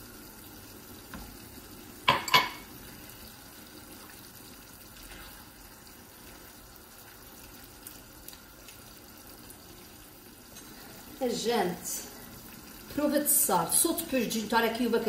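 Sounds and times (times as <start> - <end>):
stew sizzling in a pan: 0.0 - 15.0.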